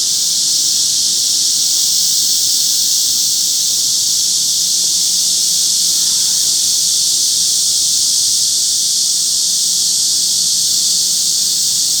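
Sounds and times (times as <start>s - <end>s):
cicadas and crickets shrilling: 0.0s - 12.0s.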